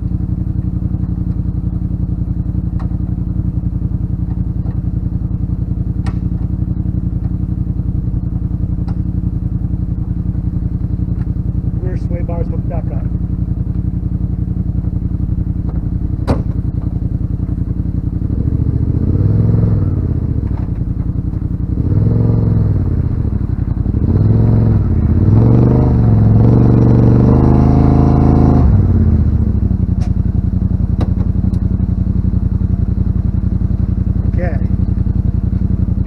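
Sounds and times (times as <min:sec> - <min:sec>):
engine idling and revving: 0:00.0 - 0:36.0.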